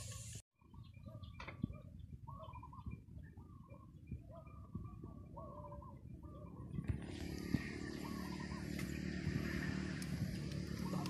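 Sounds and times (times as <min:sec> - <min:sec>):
bird calling: 0:00.0 - 0:09.2.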